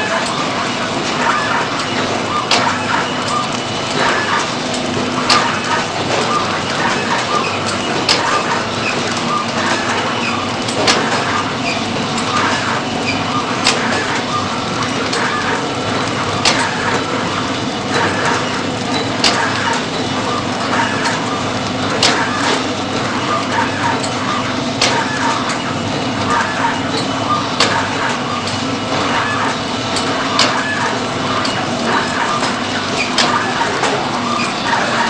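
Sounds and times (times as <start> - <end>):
packaging machine humming and clattering: 0.0 - 35.0.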